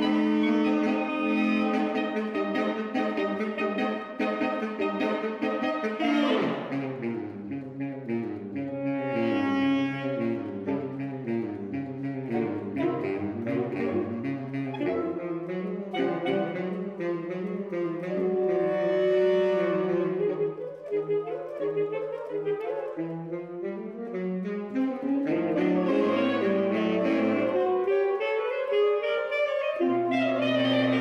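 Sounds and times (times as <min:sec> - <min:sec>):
saxophone quartet playing: 0:00.0 - 0:31.0.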